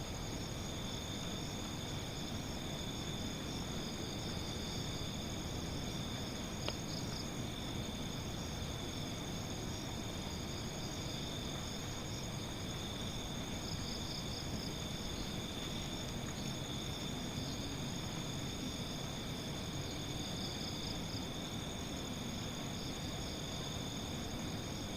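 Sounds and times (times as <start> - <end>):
low background hiss: 0.0 - 24.9
night insects trilling: 0.0 - 24.9.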